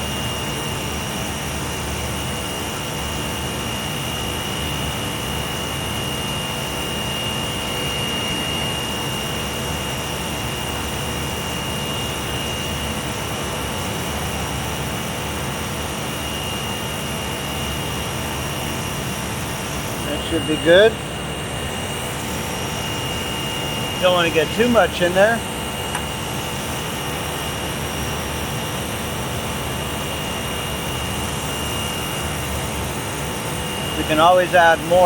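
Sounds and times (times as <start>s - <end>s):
chiller machinery drone: 0.0s - 35.0s.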